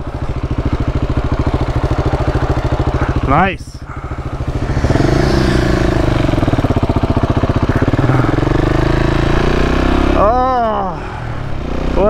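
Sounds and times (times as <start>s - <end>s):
motorcycle engine pulling away: 0.2s - 3.2s, 3.9s - 10.6s.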